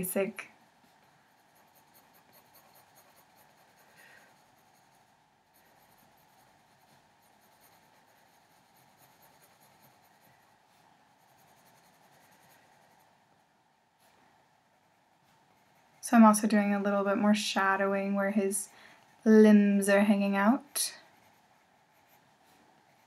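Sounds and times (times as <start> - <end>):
pencil scratching on paper: 0.8 - 17.2, 19.8 - 23.0.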